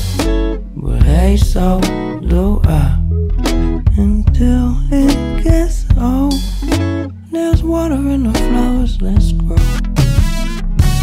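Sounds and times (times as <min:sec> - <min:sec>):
song with sung melody: 0:00.0 - 0:11.0.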